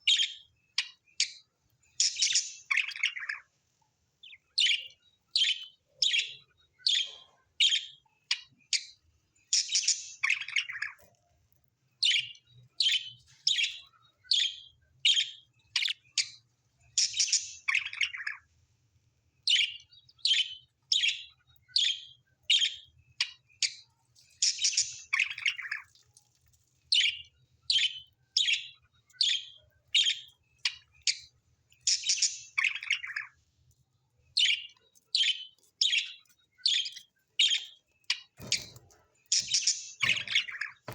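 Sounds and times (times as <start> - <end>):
bird chirping: 0.0 - 18.6, 19.4 - 40.9.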